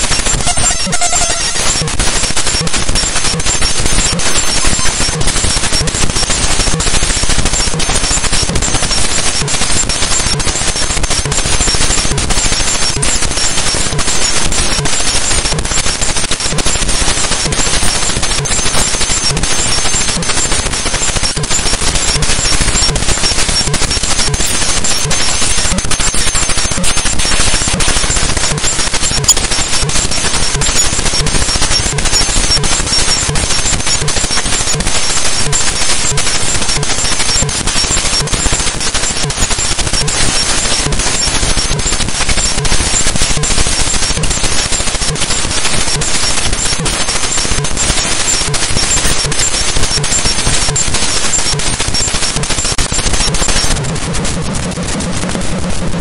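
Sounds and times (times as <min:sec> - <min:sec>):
harsh hiss with crackling clicks: 0:00.0 - 0:56.0.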